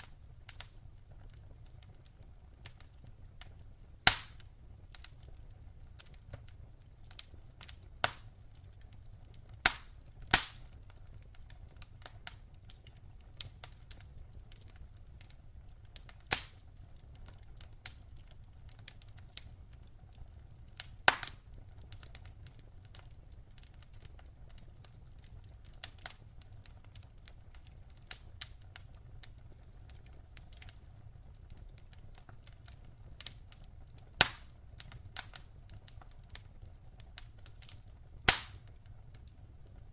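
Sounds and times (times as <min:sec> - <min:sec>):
campfire crackling: 0:00.0 - 0:39.9
low rumble of fire: 0:00.0 - 0:39.9.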